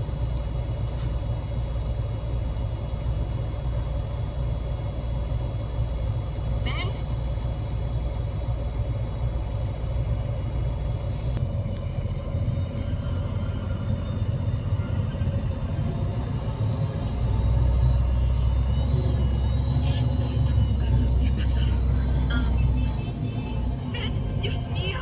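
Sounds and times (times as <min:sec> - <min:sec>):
engine and road rumble: 0:00.0 - 0:25.0.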